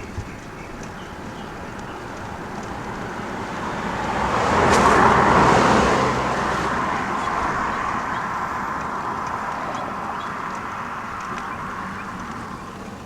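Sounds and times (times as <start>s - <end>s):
road traffic noise: 0.0s - 13.0s
vehicle passing by: 1.2s - 13.0s.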